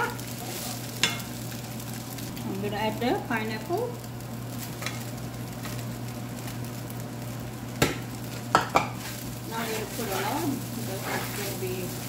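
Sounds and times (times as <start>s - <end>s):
rice sizzling in a frying pan: 0.0s - 12.0s
steady low hum: 0.0s - 12.0s.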